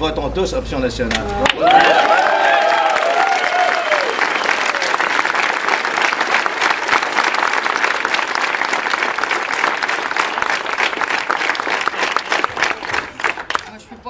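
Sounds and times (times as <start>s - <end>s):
crowd applauding: 1.4s - 13.8s.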